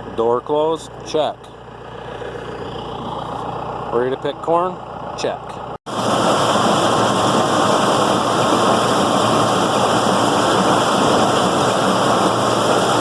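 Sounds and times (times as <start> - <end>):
corn picker machine running: 0.0 - 13.0.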